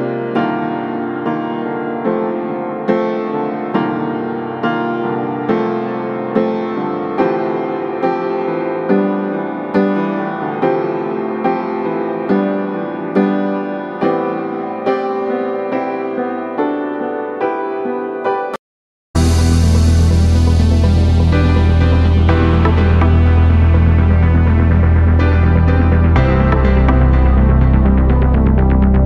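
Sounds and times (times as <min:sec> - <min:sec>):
piano chords: 0:00.0 - 0:18.6, 0:19.2 - 0:29.0.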